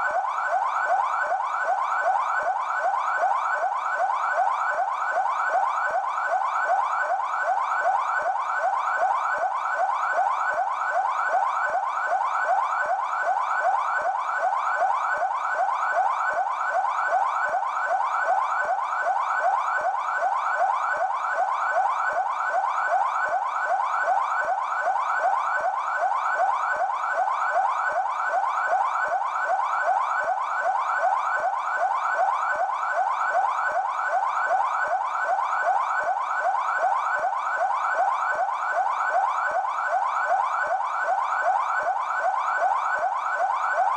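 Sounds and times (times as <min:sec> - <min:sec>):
police siren yelp: 0:00.0 - 0:43.9.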